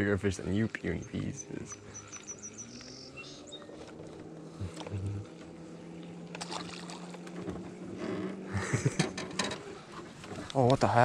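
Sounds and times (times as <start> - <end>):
outboard boat motor running: 0.0 - 11.0.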